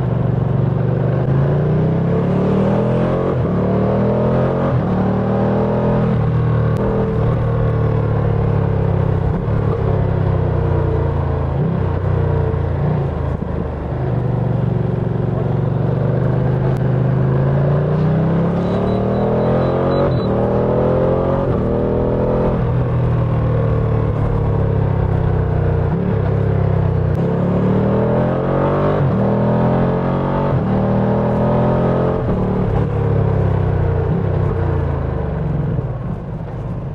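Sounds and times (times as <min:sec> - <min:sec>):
motorcycle engine revving through gears: 0:00.0 - 0:36.8.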